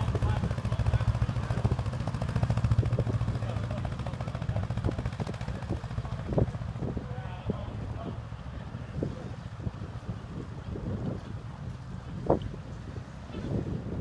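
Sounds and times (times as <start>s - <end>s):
diesel boat engine chugging: 0.0s - 14.0s.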